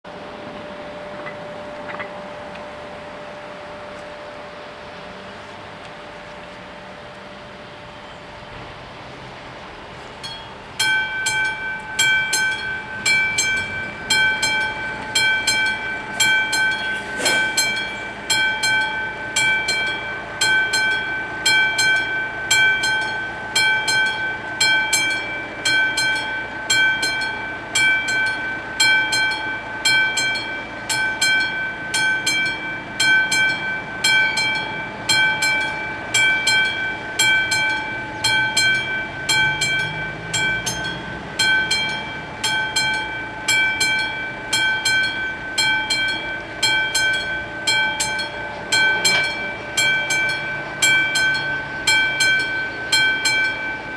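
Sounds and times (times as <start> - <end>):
level crossing warning bells: 0.1 - 53.9.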